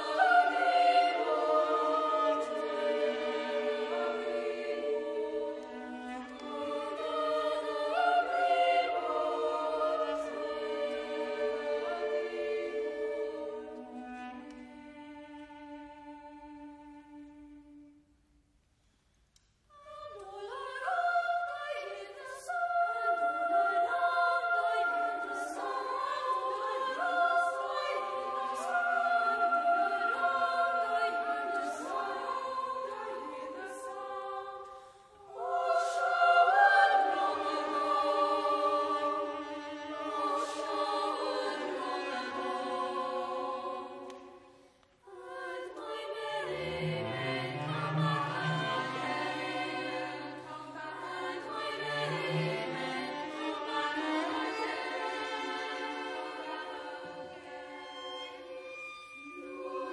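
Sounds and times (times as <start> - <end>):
boys' choir singing: 0.0 - 14.2, 19.8 - 58.6, 59.3 - 59.9.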